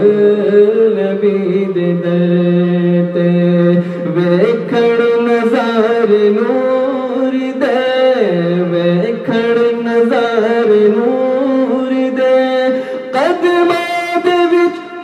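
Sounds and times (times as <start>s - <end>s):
man singing a cappella: 0.0s - 15.0s.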